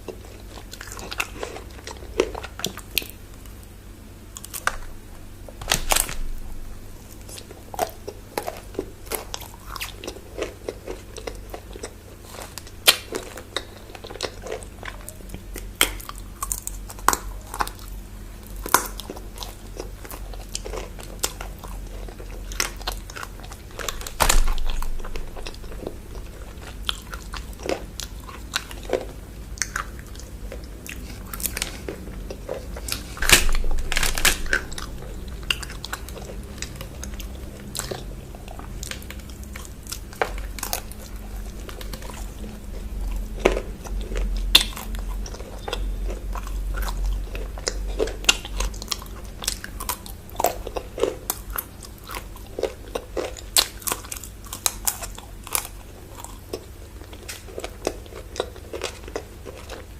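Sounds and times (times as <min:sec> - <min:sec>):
chocolate crunching and chewing: 0:00.0 - 0:59.9.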